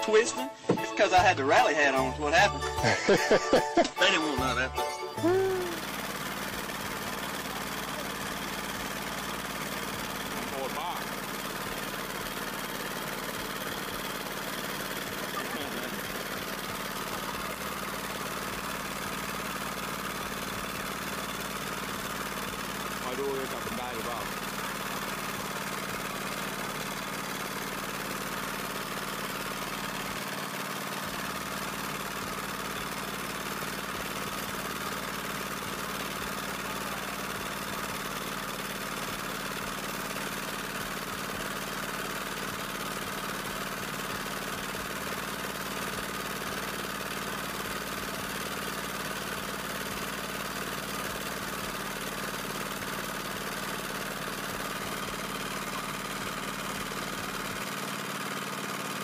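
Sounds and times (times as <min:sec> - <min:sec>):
engine running steadily: 0:05.2 - 0:59.0.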